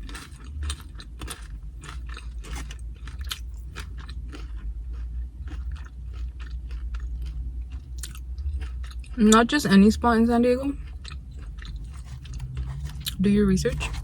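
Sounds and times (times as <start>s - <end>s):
person chewing crunchy chips: 0.0s - 14.0s.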